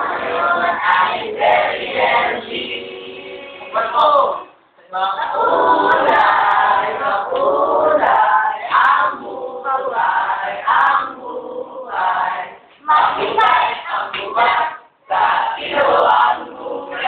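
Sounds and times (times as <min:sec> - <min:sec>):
group singing in unison: 0:00.0 - 0:04.4, 0:05.0 - 0:17.0.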